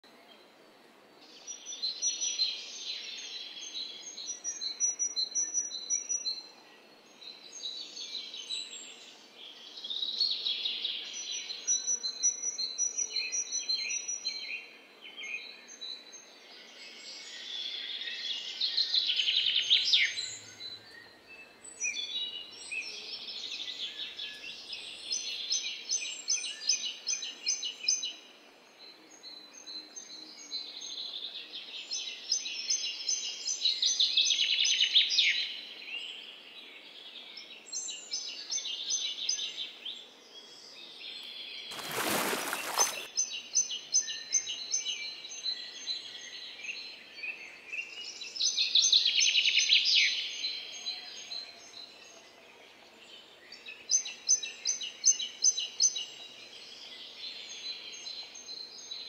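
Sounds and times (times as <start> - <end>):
songbirds singing and trilling: 1.2 - 59.0.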